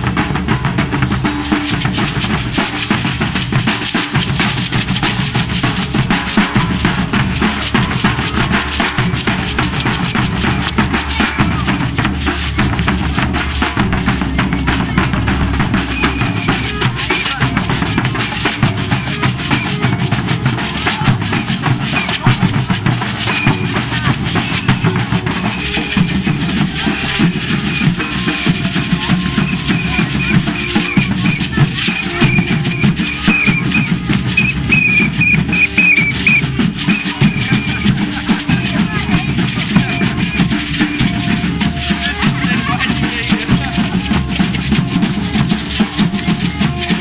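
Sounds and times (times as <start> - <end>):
hand drums beating: 0.0 - 47.0.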